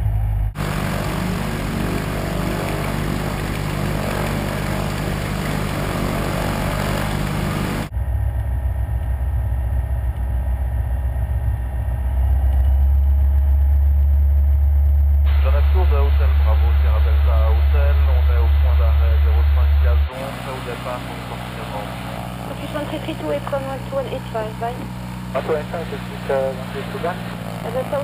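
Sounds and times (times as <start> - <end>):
aircraft engine and propeller: 0.0 - 19.4, 20.1 - 28.0
engine drone inside cabin: 0.0 - 28.0.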